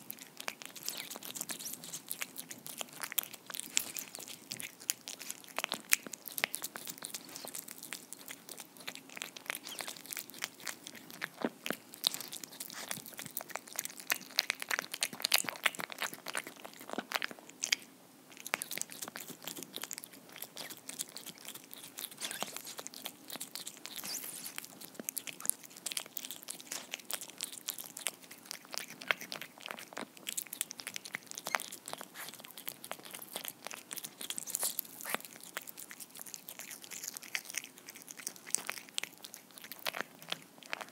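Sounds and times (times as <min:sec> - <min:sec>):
cat chewing and licking: 0:00.0 - 0:40.9.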